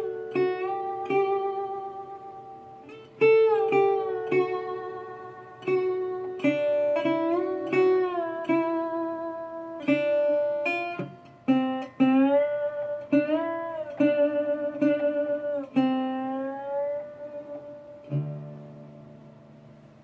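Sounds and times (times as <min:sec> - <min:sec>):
acoustic guitar plucked notes: 0:00.0 - 0:20.0.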